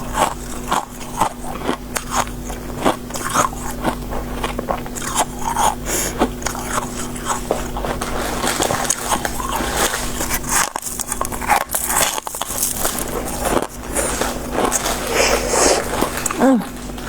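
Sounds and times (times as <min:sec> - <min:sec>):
ice being chewed: 0:00.0 - 0:17.0
steady low hum: 0:00.0 - 0:17.0.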